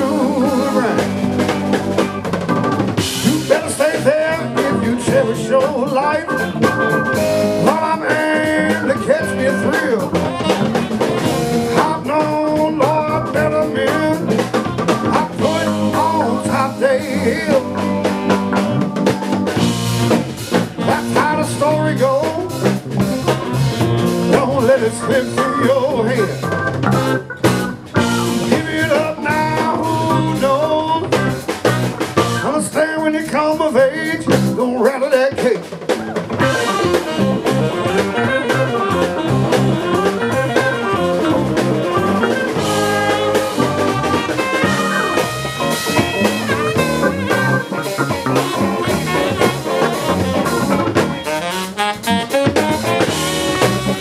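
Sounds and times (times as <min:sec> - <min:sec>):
band playing live: 0:00.0 - 0:54.0
drum kit beat: 0:00.0 - 0:54.0.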